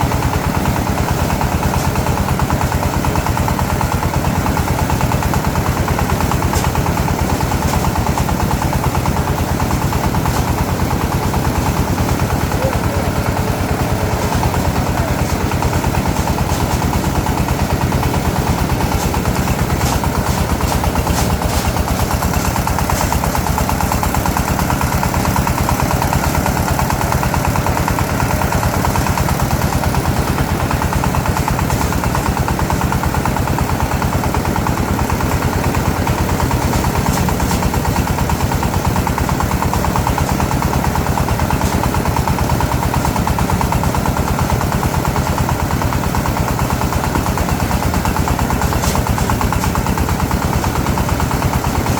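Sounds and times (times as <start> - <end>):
small engine running: 0.0 - 51.9.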